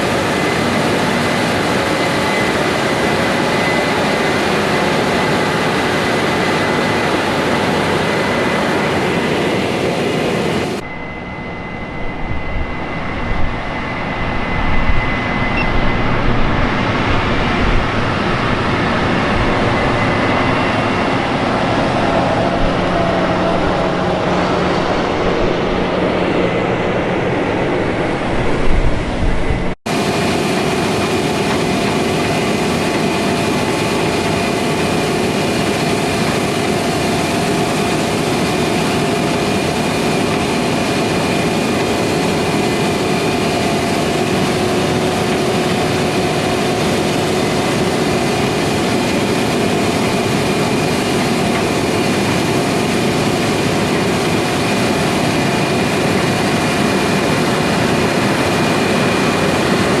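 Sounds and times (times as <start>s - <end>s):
harvest machinery drone: 0.0s - 60.0s
whining tones: 0.0s - 60.0s.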